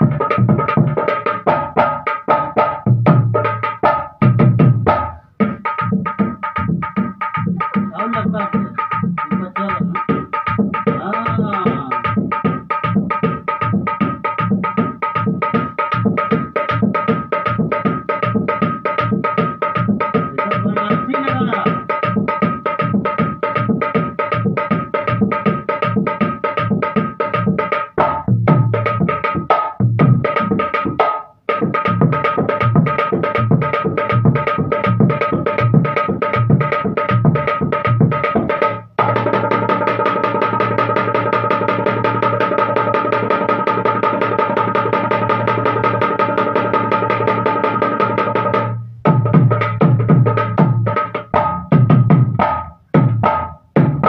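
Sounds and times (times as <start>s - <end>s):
barrel drum played by hand: 0.0s - 54.0s.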